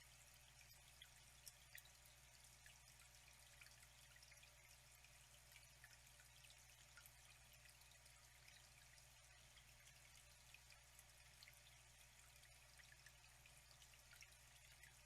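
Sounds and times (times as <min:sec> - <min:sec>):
water drips and splashes: 0:00.0 - 0:15.0
water trickling and pouring: 0:00.0 - 0:15.0.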